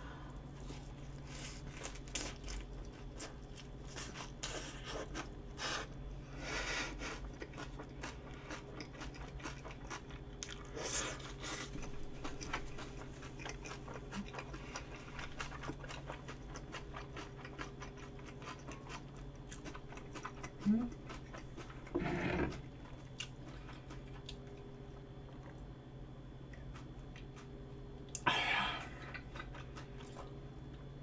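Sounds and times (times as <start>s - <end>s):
person chewing with wet crunching: 0.4s - 6.0s, 6.9s - 31.0s.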